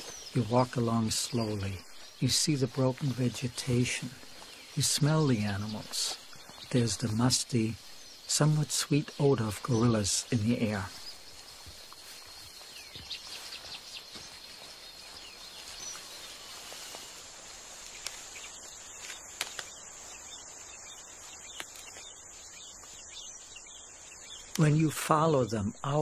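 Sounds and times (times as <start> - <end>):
faint chirps: 0.0 - 26.0.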